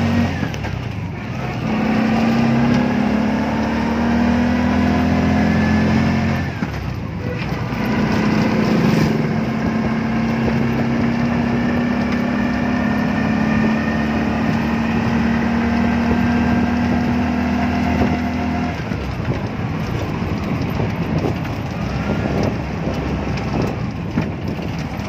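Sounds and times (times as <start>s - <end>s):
road rumble: 0.0s - 25.0s
vehicle engine droning hum: 0.0s - 25.0s.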